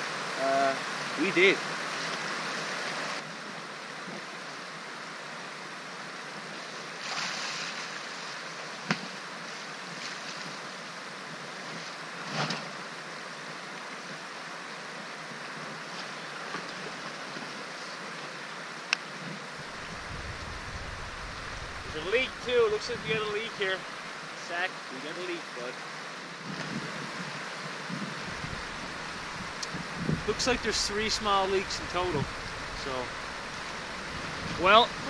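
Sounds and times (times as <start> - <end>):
river flowing over rapids: 0.0 - 35.0.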